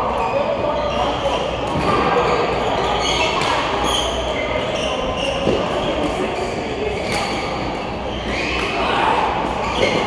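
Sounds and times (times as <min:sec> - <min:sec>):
distant voices and play echoing: 0:00.0 - 0:10.0.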